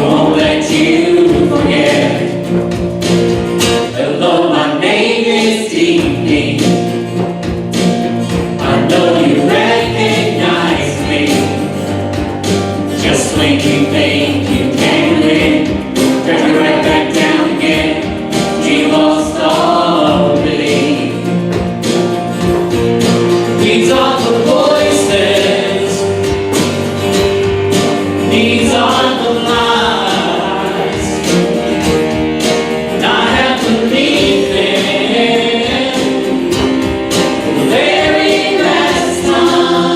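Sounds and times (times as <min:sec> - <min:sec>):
group singing a hymn: 0:00.0 - 0:39.9
instrumental accompaniment: 0:00.0 - 0:39.9.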